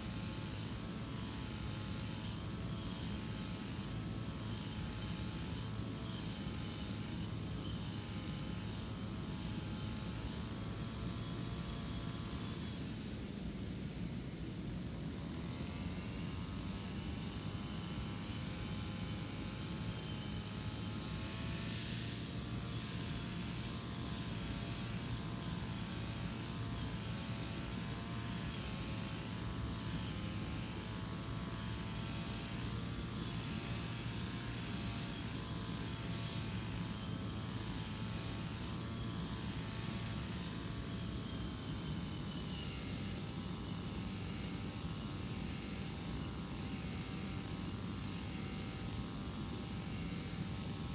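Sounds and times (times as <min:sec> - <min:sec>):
brush cutter engine whining: 0:00.2 - 0:13.1, 0:15.2 - 0:50.6.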